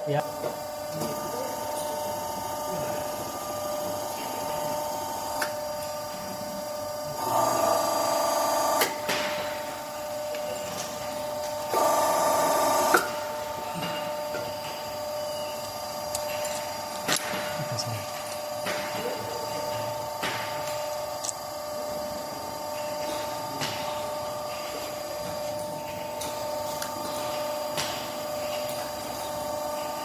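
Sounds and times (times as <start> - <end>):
crimping machine motor and pump hum: 0.0 - 30.0.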